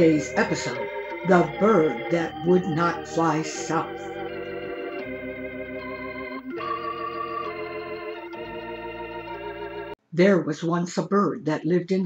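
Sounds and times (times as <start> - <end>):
held organ chords: 0.0 - 10.0.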